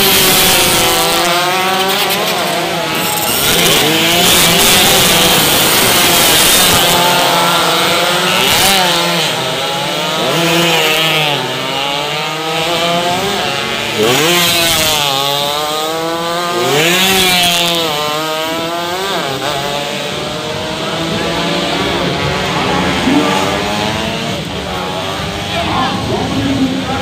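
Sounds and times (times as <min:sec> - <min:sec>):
high-revving motorcycle engines: 0:00.0 - 0:27.0.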